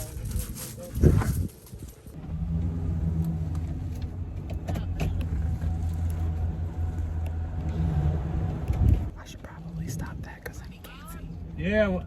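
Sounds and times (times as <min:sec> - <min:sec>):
vehicle engine running: 0:02.0 - 0:11.7.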